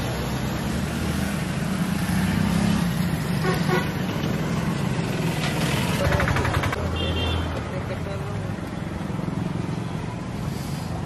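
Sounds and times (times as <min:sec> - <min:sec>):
street din: 0:00.0 - 0:11.0
vehicle engines humming: 0:00.0 - 0:11.0.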